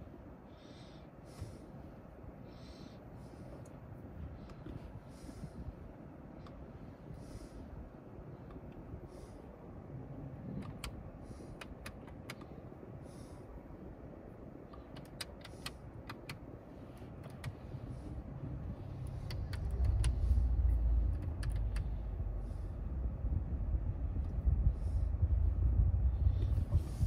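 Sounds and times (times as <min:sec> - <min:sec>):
car interior rumble: 0:00.0 - 0:27.0.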